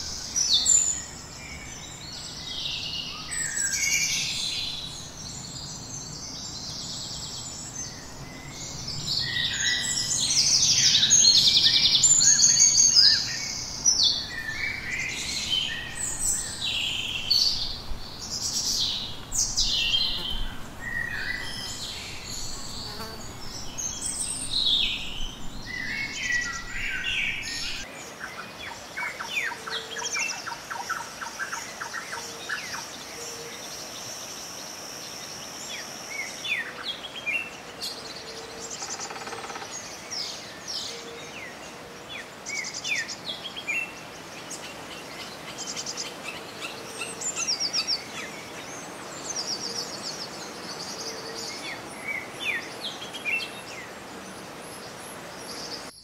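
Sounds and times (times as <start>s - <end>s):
birds singing and calling: 0.0s - 56.0s.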